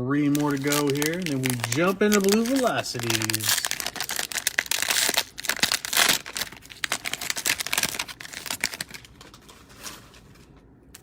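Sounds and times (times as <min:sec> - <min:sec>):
cellophane wrapper crinkling: 0:00.2 - 0:11.0.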